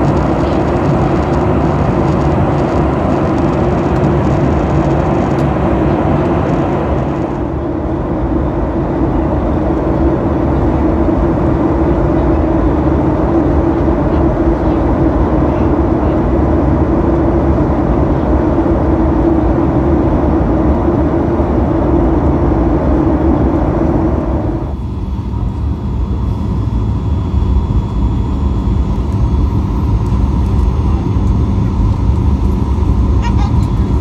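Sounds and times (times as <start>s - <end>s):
airplane cabin engine rumble: 0.0s - 34.0s
droning hum: 0.0s - 34.0s.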